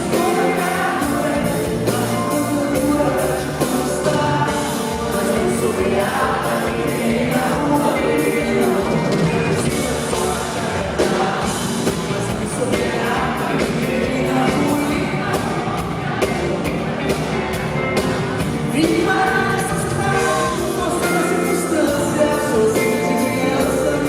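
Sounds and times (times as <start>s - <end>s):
lead vocal singing: 0.0s - 24.0s
live band music: 0.0s - 24.0s.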